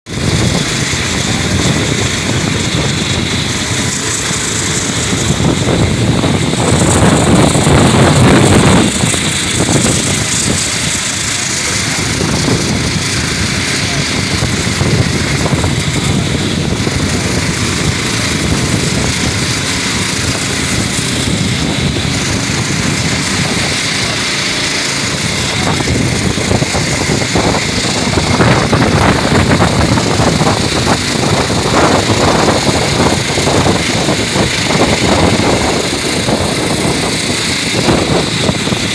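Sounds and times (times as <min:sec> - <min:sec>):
wind buffeting microphone: 0:00.1 - 0:38.9.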